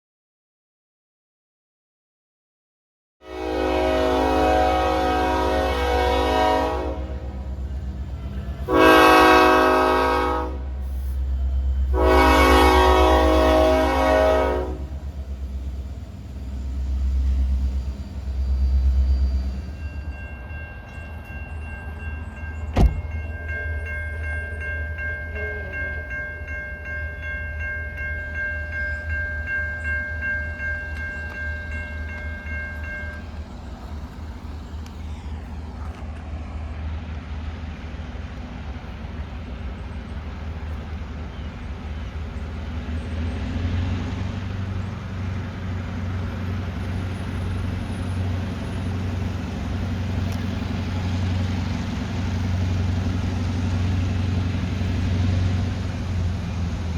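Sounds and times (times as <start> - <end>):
train rumbling past: 3.2 - 56.9.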